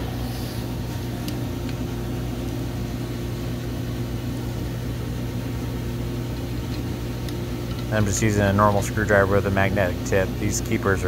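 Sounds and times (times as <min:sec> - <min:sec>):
low machine hum with tones: 0:00.0 - 0:11.0.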